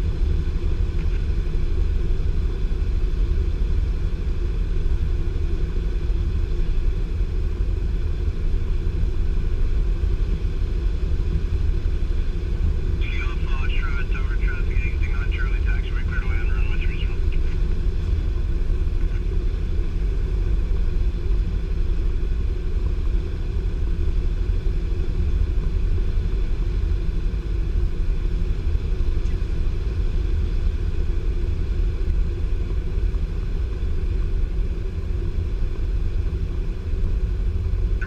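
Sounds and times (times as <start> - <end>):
airplane engine droning in cabin: 0.0 - 38.0.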